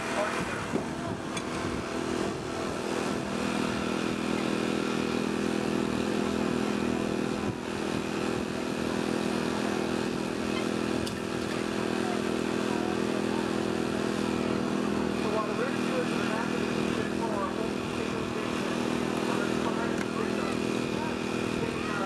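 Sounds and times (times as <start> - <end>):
small engine running steadily: 0.0 - 22.0.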